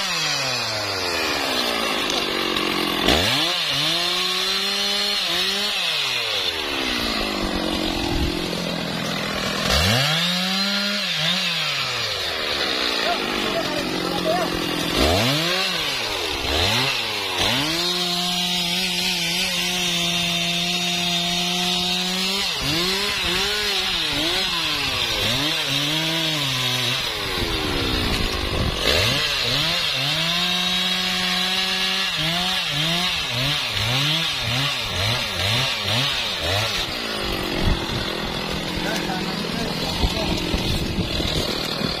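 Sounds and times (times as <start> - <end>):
chainsaw cutting log: 0.0 - 42.0.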